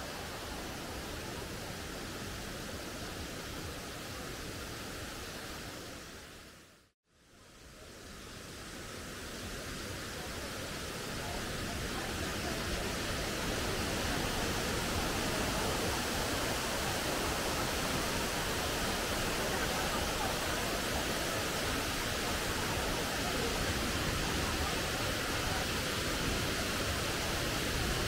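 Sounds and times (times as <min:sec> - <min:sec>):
waterfall rushing: 0:00.0 - 0:06.2, 0:08.1 - 0:28.0.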